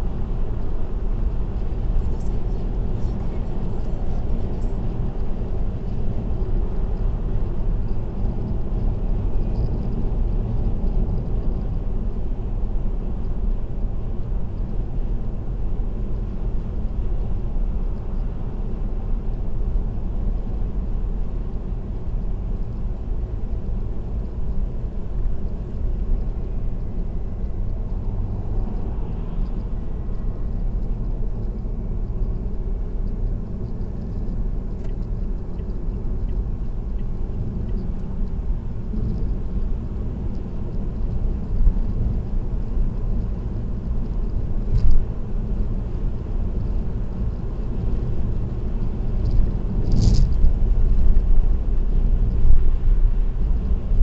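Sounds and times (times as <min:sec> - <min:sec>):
car cruising cabin rumble: 0:00.0 - 0:54.0.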